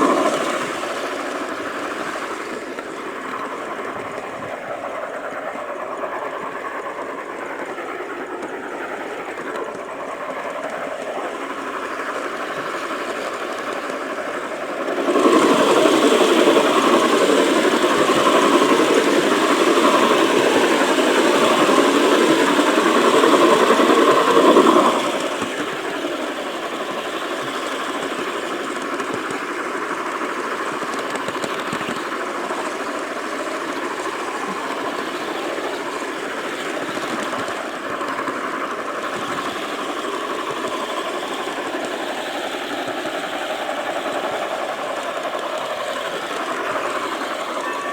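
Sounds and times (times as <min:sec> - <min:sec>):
model train running on track: 0:00.0 - 0:47.9
wavering whine: 0:00.0 - 0:47.9.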